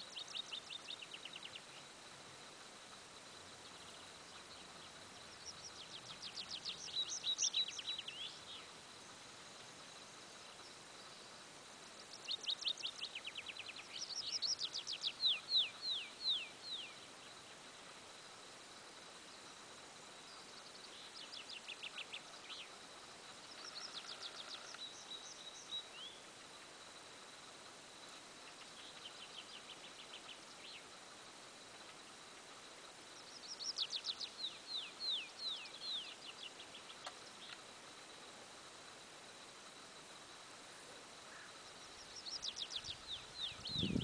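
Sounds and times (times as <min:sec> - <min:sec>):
faint high tone and hiss: 0:00.0 - 0:44.0
songbird singing: 0:00.0 - 0:44.0.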